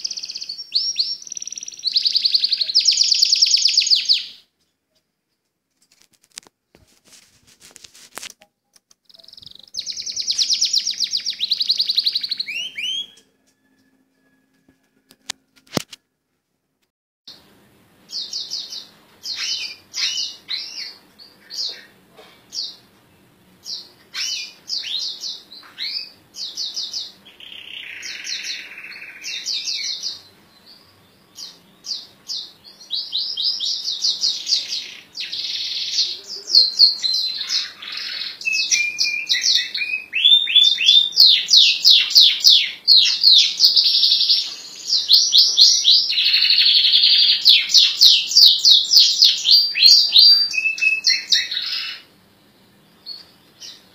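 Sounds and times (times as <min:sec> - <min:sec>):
songbird singing: 0:00.0 - 0:05.1, 0:08.4 - 0:15.5, 0:17.3 - 0:53.9.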